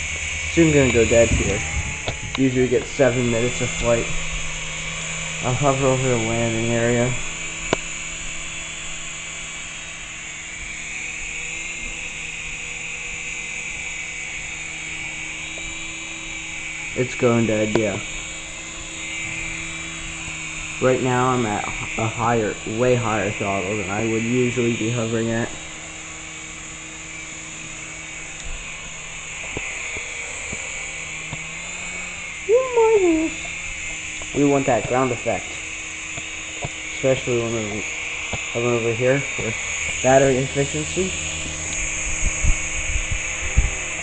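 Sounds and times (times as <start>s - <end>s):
toy helicopter motor whine: 0.0s - 44.0s.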